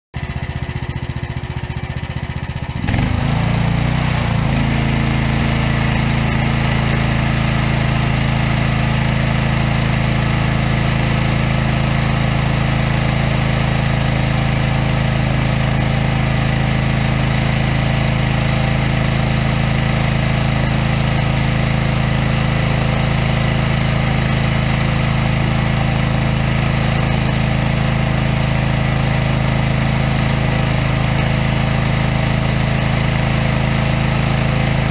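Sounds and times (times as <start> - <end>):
machine engine revving and running: 0.2 - 34.9.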